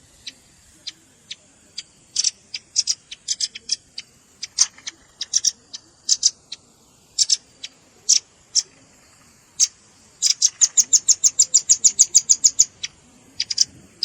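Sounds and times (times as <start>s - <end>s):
bird calling in sharp chips: 0.2s - 14.0s.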